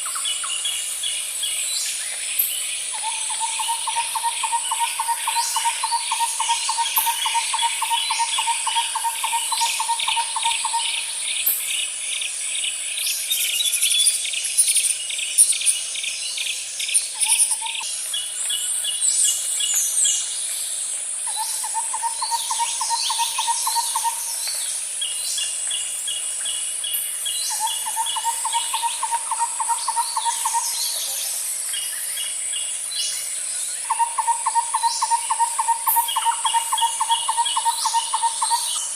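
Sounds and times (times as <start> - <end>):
high insect drone: 0.0 - 38.9
birds chirping and calling: 1.5 - 20.2, 21.3 - 38.9.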